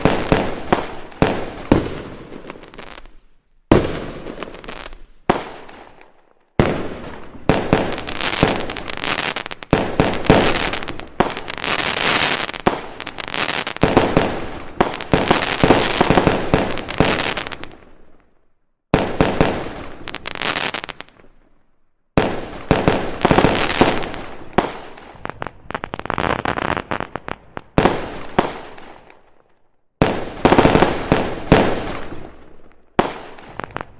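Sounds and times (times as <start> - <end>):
fireworks bangs and crackling: 0.0 - 18.3, 18.9 - 21.6, 22.2 - 29.4, 30.0 - 33.9.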